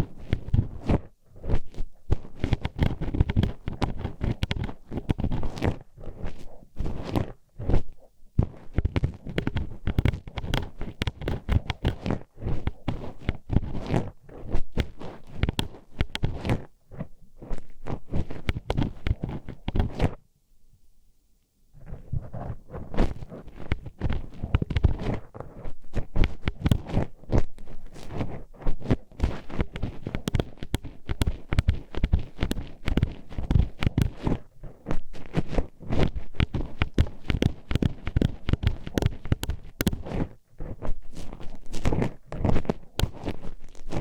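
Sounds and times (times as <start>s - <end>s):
hairpin scraping microphone: 0.0s - 20.2s, 21.8s - 44.0s.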